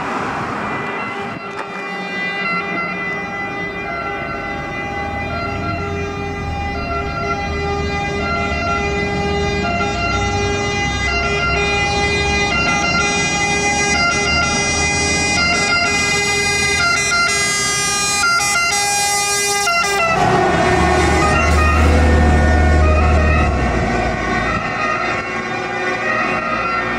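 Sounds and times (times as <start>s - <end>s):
truck engine: 0.0s - 26.9s
two-tone fire engine siren: 0.3s - 26.9s.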